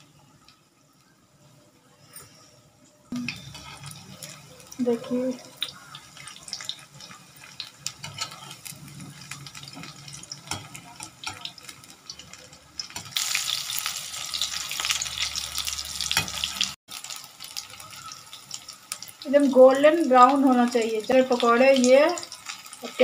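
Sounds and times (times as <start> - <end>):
food deep-frying in oil: 3.1 - 23.0.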